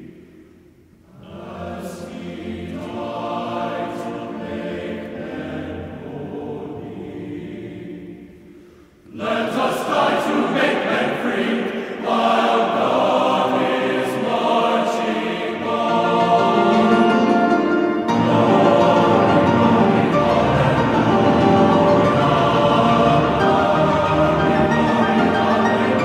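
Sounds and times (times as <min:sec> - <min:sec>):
choir singing held chords: 0:00.0 - 0:26.0.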